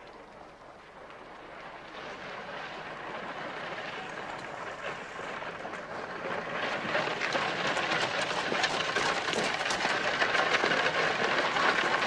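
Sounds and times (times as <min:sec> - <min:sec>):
hooves clopping: 0:00.0 - 0:12.0
wheels crunching over gravel: 0:00.0 - 0:12.0.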